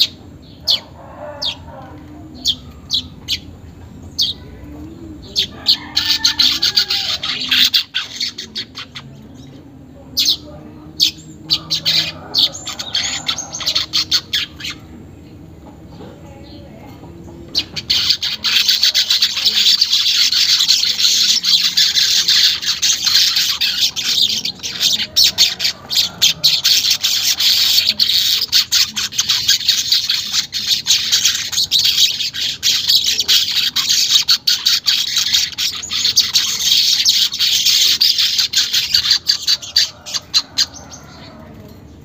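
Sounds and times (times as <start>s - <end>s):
bird singing buzzy chatter: 0.0s - 42.0s.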